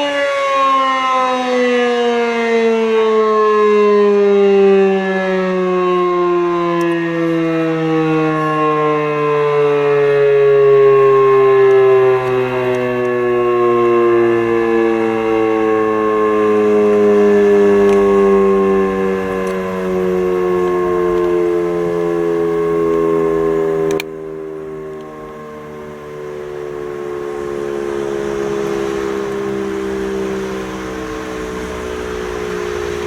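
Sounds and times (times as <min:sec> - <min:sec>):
civil defence siren wailing: 0:00.0 - 0:33.0.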